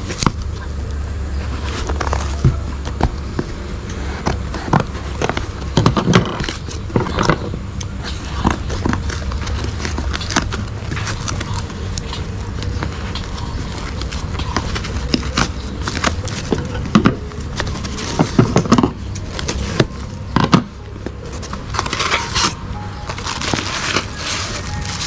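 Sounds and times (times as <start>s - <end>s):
bubble wrap crackling: 0.0s - 25.0s
steady low hum: 0.0s - 25.0s.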